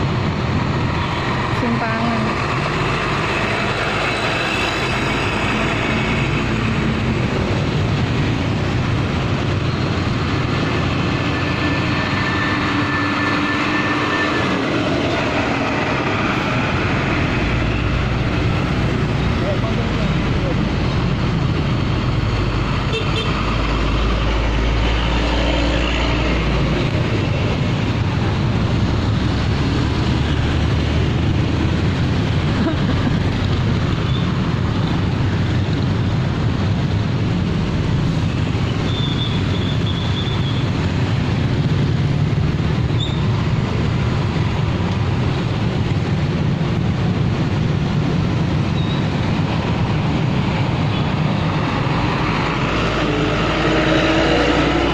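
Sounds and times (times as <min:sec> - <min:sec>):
diesel trucks engine rumble: 0:00.0 - 0:54.9.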